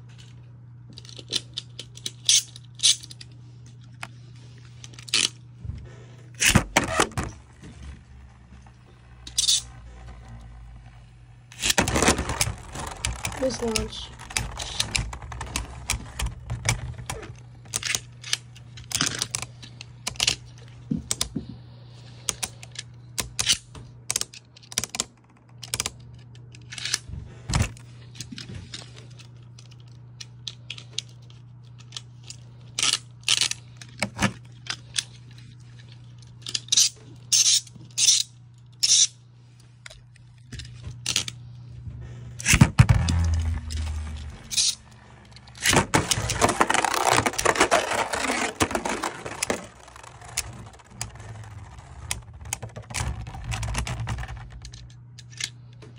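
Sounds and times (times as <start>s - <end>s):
low hum: 0.0s - 24.0s, 26.0s - 55.9s.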